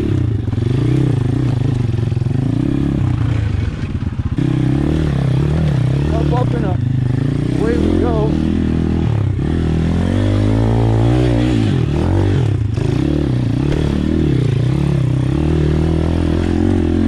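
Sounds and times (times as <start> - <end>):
small motorcycle engine revving: 0.0 - 17.0.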